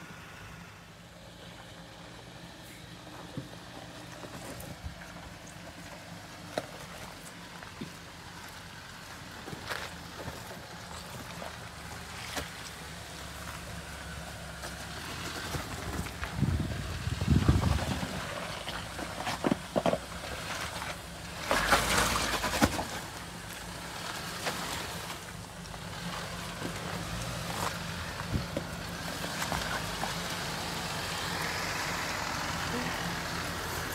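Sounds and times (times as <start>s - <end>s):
off-road engine running: 0.0s - 33.9s.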